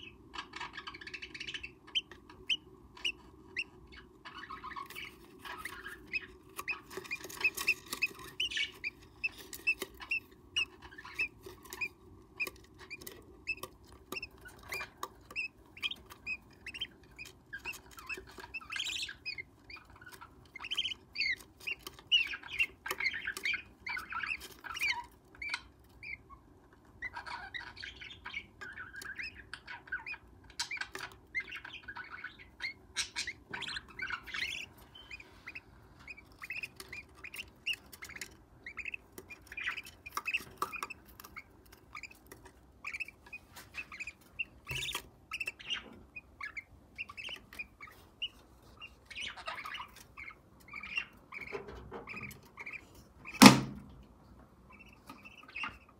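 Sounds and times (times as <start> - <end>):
parrot chicks raspy chirping: 0.0 - 55.9.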